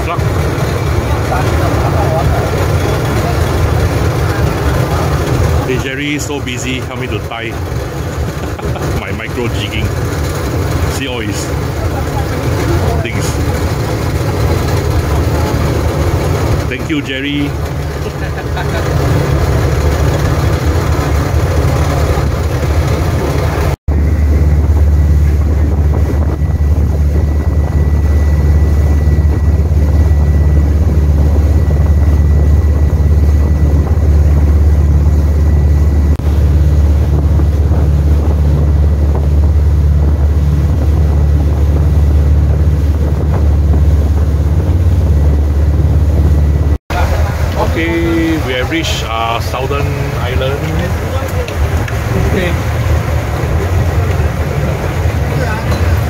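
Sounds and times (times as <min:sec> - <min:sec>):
boat engine droning: 0:00.0 - 0:56.0
rush of boat wake: 0:00.0 - 0:56.0
wind buffeting microphone: 0:00.0 - 0:56.0.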